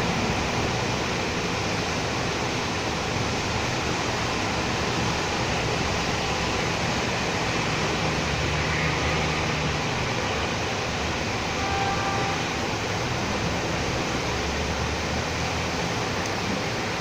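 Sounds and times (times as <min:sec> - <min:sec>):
rain falling: 0:00.0 - 0:17.0
vehicles passing on wet road: 0:00.0 - 0:17.0.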